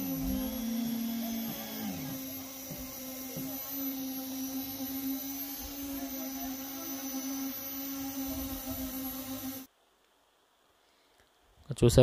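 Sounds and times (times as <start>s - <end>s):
concrete vibrator humming: 0.0s - 9.7s.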